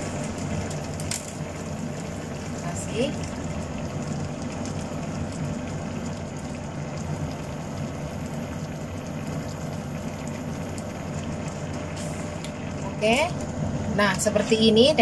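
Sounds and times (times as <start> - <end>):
broth bubbling and crackling: 0.0 - 15.0.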